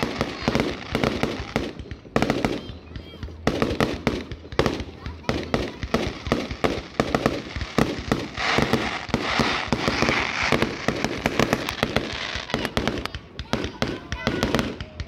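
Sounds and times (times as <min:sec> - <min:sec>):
fireworks hissing: 0:00.0 - 0:02.6, 0:03.4 - 0:15.0
fireworks bangs: 0:00.0 - 0:15.0.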